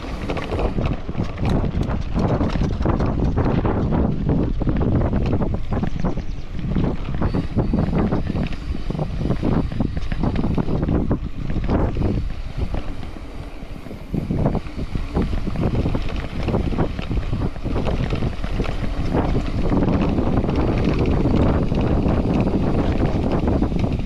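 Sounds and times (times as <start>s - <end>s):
bike knocking and rattling: 0.0s - 24.0s
tyres rumbling over gravel: 0.0s - 24.0s
wind buffeting microphone: 0.0s - 24.0s.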